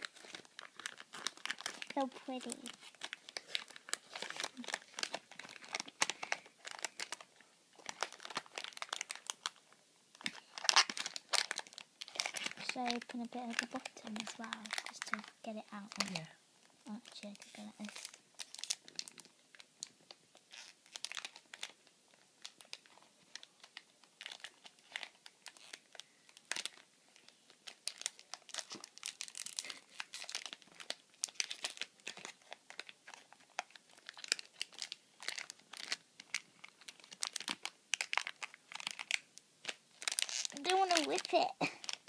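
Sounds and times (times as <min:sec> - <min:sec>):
wrapping paper crinkling and tearing: 0:00.0 - 0:42.0.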